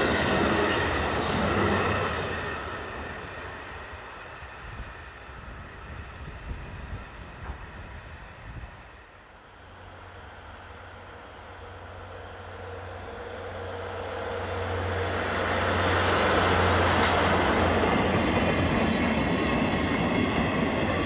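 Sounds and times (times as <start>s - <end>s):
railcar wheels on rails: 0.0s - 21.0s.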